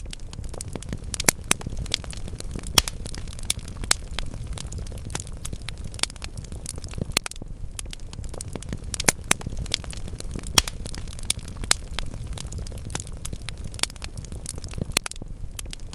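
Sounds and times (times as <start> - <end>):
wood logs crackling in fireplace: 0.0 - 15.9.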